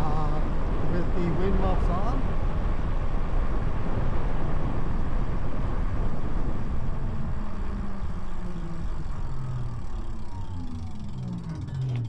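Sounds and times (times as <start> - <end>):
faint whine: 0.0 - 12.0
road noise: 0.0 - 12.0
wind rumble: 0.0 - 12.0.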